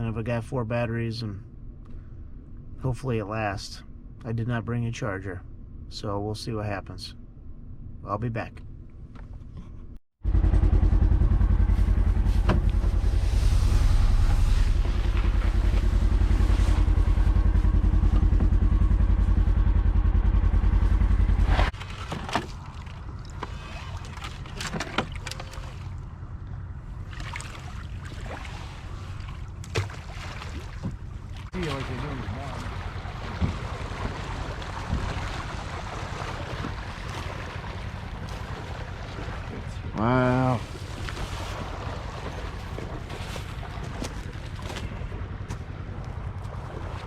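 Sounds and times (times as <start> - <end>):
vehicle interior rumble: 7.1 - 47.0.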